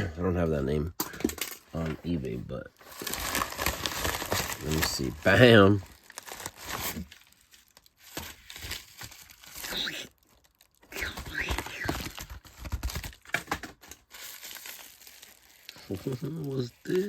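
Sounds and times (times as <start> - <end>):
plastic packaging crinkling: 2.8 - 17.0.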